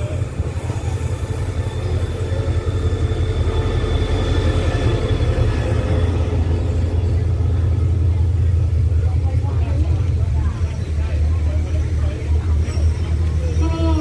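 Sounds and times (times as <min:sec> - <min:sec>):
diesel locomotive engine and wheel rumble: 0:00.0 - 0:14.0.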